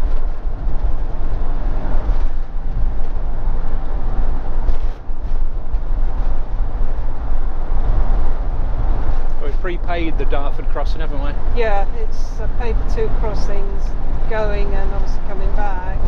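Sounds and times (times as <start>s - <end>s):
engine and road noise rumble: 0.0s - 16.0s.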